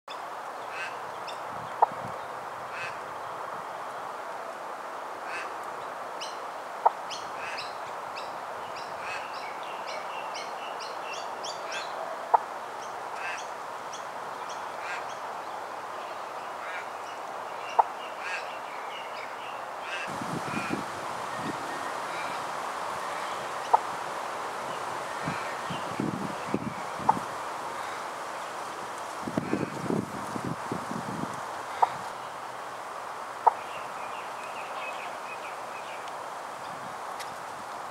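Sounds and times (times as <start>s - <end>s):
steady background hiss: 0.1s - 37.9s.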